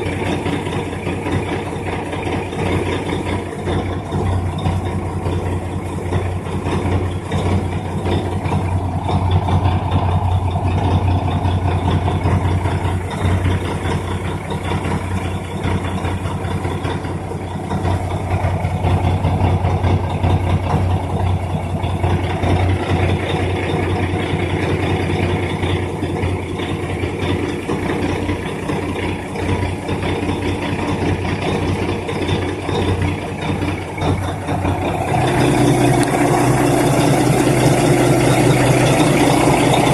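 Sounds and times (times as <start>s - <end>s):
diesel air heater humming: 0.0s - 39.9s.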